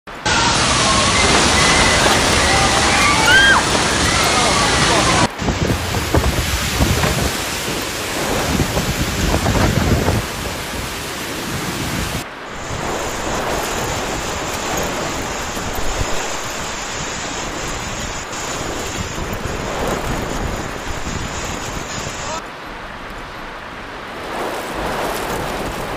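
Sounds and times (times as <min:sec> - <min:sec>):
storm wind: 0:00.1 - 0:25.9
torrential rain: 0:00.1 - 0:25.9
wind buffeting microphone: 0:00.3 - 0:25.9.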